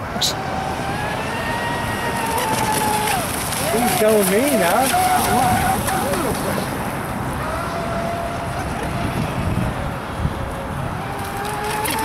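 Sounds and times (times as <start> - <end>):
toy boat motor whining: 0.0 - 12.0
wind rumbling on microphone: 0.0 - 12.0.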